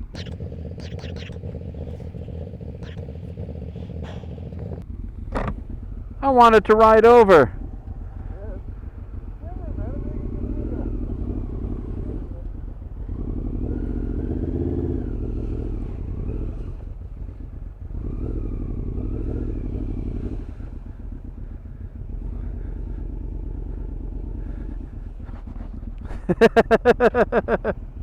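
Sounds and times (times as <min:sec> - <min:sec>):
motorcycle engine running: 0:00.0 - 0:06.1, 0:07.5 - 0:26.0.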